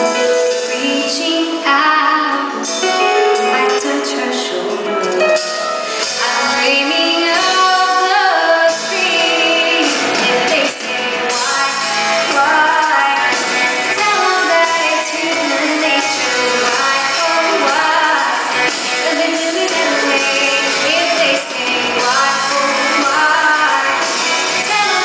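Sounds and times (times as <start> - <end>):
live band playing pop ballad: 0.0 - 25.0
woman singing: 0.0 - 25.0.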